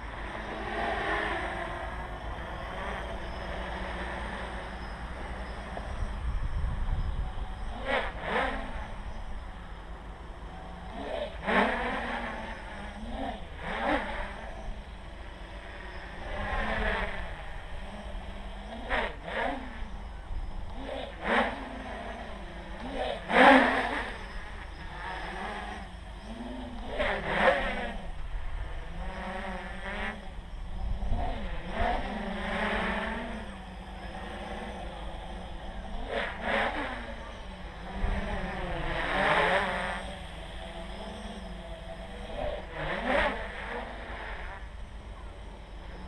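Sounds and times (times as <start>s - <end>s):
drone propellers whining: 0.0s - 46.0s.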